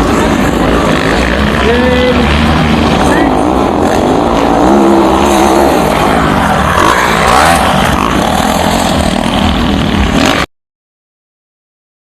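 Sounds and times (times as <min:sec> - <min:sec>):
dirt bike engines buzzing: 0:00.0 - 0:10.5.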